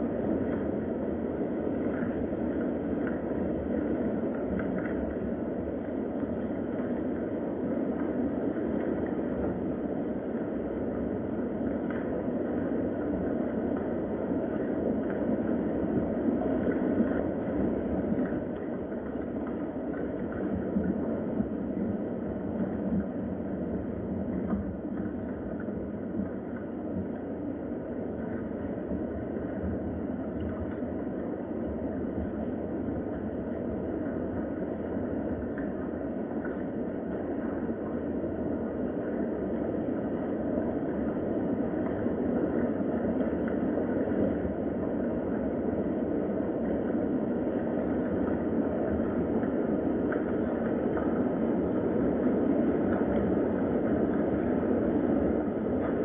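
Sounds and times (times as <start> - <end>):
steady rain: 0.0 - 56.0
faint ticks: 1.8 - 9.6, 11.5 - 27.4, 28.1 - 39.5, 41.7 - 54.7.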